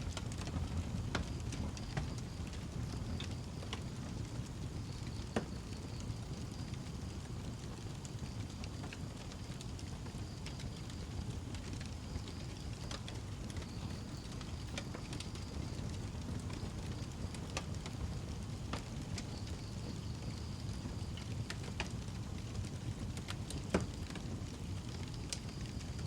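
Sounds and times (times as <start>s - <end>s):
flames rumbling: 0.0s - 26.0s
wood crackling and popping: 0.0s - 26.0s.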